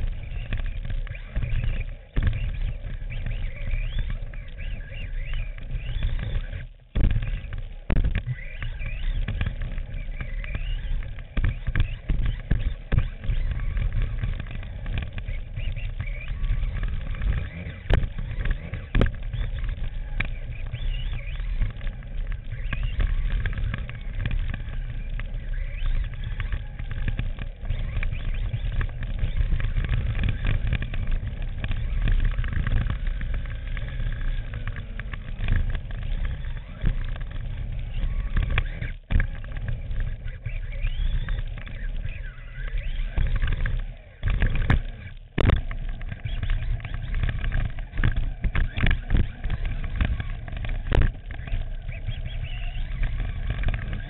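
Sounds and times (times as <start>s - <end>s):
electric motor whine: 0.0s - 54.0s
sharp knocks from bumps: 0.0s - 54.0s
tyres rumbling over dirt: 0.0s - 54.0s.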